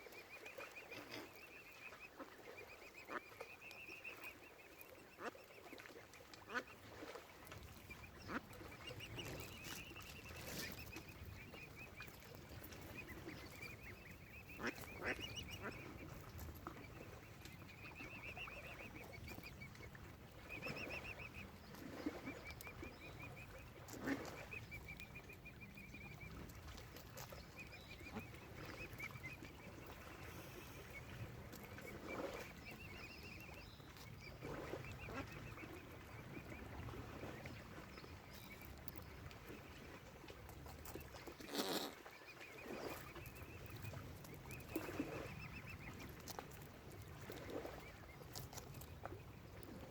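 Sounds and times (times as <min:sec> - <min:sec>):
waterfowl pulsed calls: 0:00.0 - 0:49.9.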